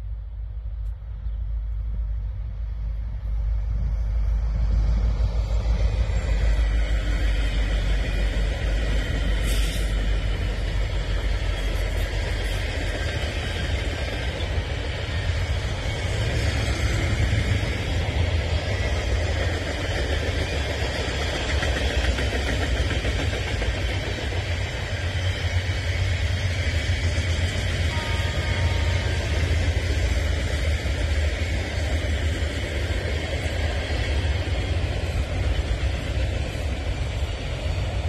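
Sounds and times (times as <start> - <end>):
freight train cars rolling: 0.7 - 38.0.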